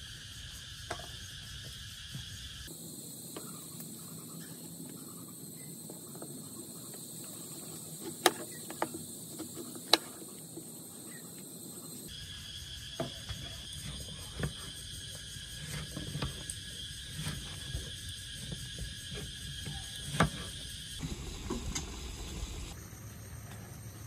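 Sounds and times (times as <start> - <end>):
high insect chirring: 0.0 - 23.2.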